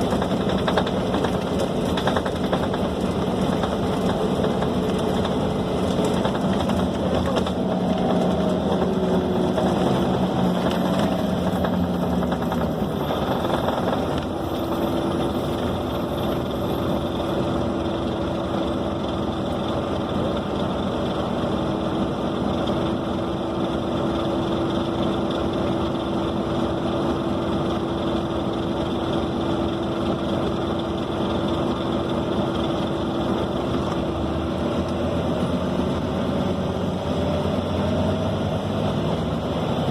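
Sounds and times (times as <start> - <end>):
bus diesel engine running: 0.0 - 39.9
road rumble: 0.0 - 39.9.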